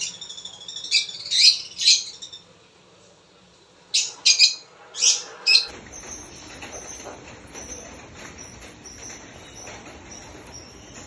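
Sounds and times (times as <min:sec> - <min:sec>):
birds chirping: 0:00.0 - 0:02.9, 0:03.8 - 0:11.0.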